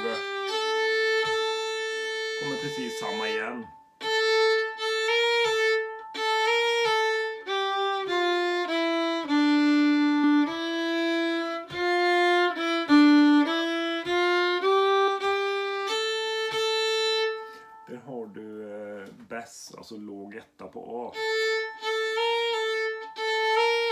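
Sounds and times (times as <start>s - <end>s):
solo fiddle folk tune: 0.0s - 19.1s, 21.0s - 23.9s.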